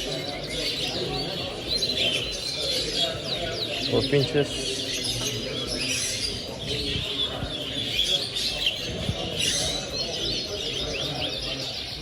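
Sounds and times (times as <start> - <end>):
low background murmur: 0.0 - 12.0
small birds chirping: 0.0 - 12.0.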